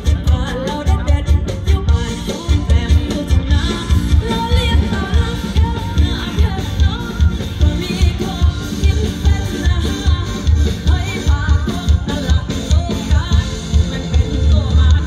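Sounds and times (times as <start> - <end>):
bass guitar: 0.0 - 15.0
drum beat with heavy kick: 0.0 - 15.0
electric guitars: 0.0 - 15.0
woman singing: 0.0 - 15.0.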